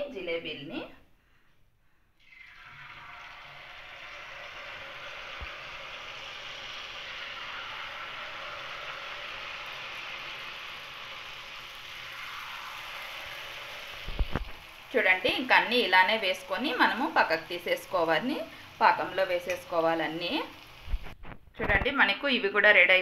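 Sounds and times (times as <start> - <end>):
batter sizzling in hot oil: 2.2 - 21.3.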